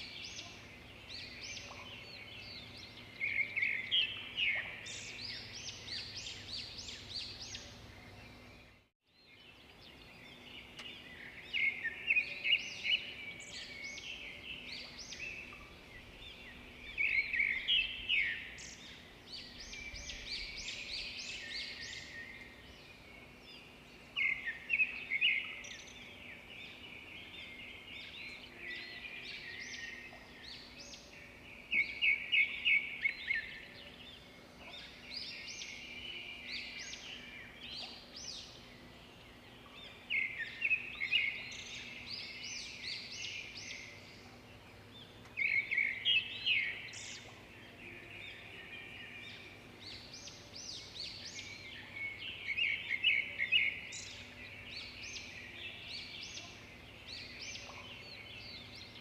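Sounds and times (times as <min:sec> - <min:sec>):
chorus of birds chirping: 0:00.0 - 0:59.0.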